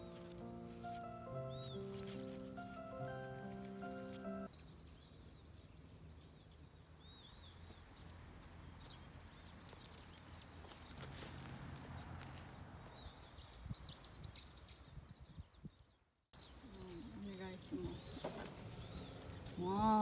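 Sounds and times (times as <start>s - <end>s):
faint outdoor background noise: 0.0s - 20.0s
small birds chirping: 0.0s - 20.0s.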